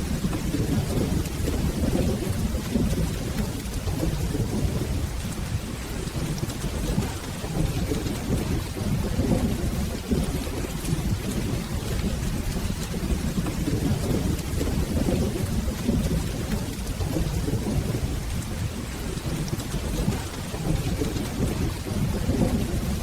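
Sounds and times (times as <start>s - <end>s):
rolling thunder: 0.0s - 23.0s
steady rain: 0.0s - 23.0s.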